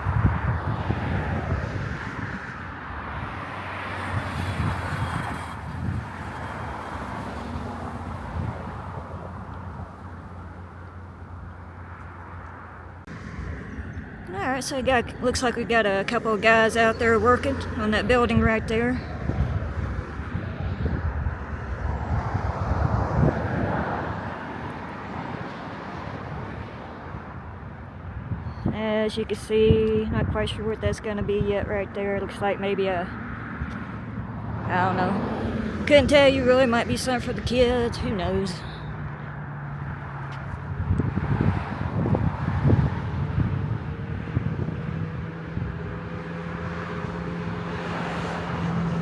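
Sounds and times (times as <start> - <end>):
wind buffeting microphone: 0.0 - 11.5, 12.3 - 49.0
passing vehicle rushing: 0.0 - 28.4, 33.0 - 49.0.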